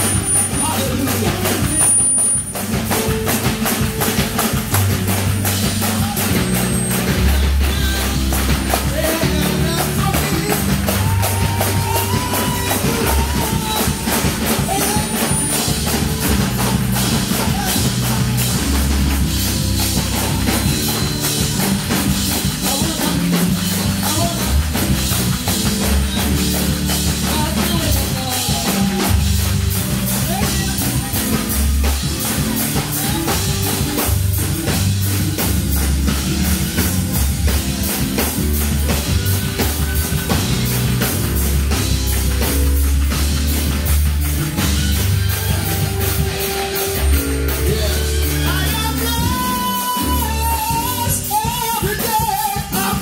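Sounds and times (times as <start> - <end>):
deep bass notes: 0.0 - 51.2
drum kit fast beat: 0.0 - 53.0
hand-clapping: 0.0 - 53.0.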